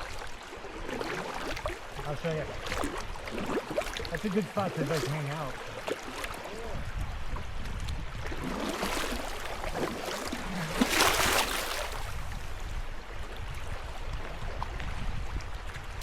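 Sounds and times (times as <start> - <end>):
paddle strokes splashing: 0.0 - 16.0
river water running over riffles: 0.0 - 16.0.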